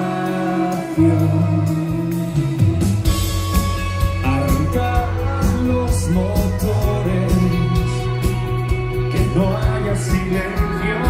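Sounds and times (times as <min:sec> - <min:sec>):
person singing: 0:00.0 - 0:02.6, 0:04.1 - 0:11.0
live rock band playing: 0:00.0 - 0:11.0.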